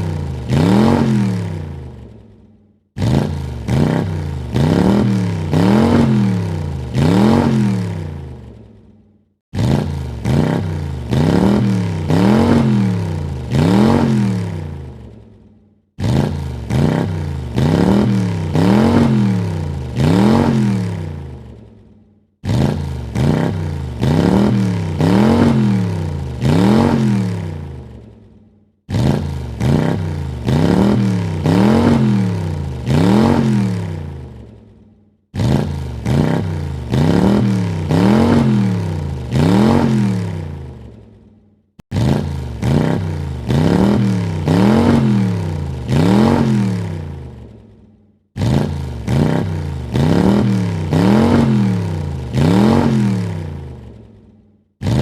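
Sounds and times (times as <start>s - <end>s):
car engine revving: 0.0s - 2.3s, 3.0s - 8.6s, 9.5s - 15.2s, 16.0s - 21.6s, 22.4s - 28.1s, 28.9s - 34.6s, 35.4s - 41.0s, 41.8s - 47.5s, 48.4s - 54.0s.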